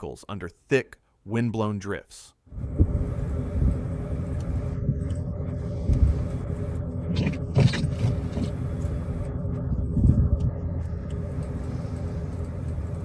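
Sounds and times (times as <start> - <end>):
low rumble with faint hum: 2.4 - 13.0.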